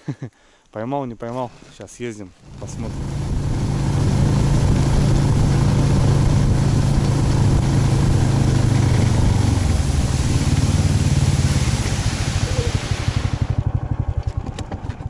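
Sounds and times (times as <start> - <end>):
engine driving over ice: 1.3 - 15.0.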